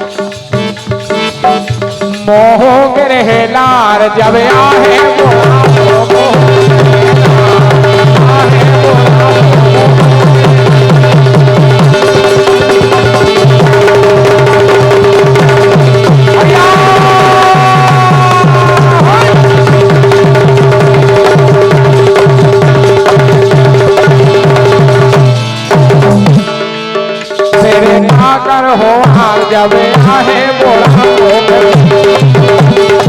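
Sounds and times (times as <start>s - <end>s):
hand drum fast rhythm: 0.0s - 33.0s.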